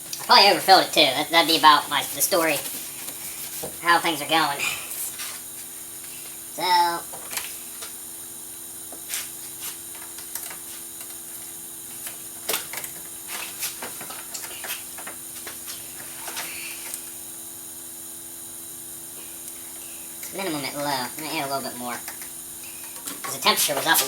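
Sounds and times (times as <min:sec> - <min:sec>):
electrical hum: 0:00.0 - 0:24.0.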